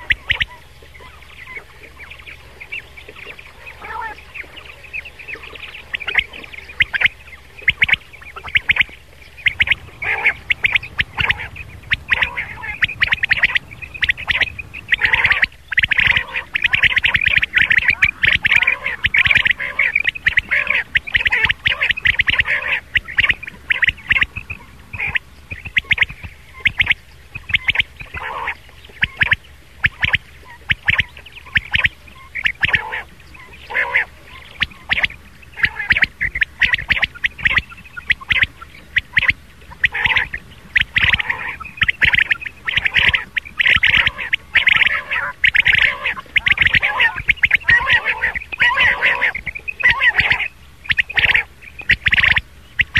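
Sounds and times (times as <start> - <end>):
quail calls: 0.0 - 52.9.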